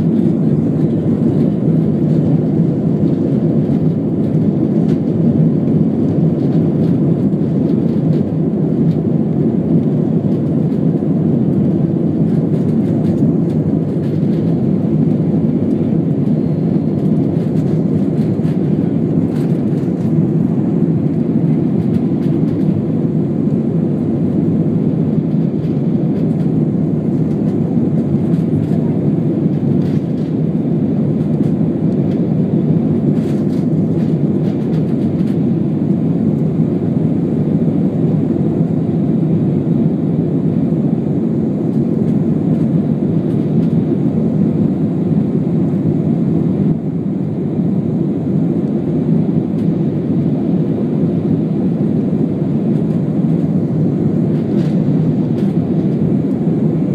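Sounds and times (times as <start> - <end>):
jet engine rumble: 0.0 - 56.9.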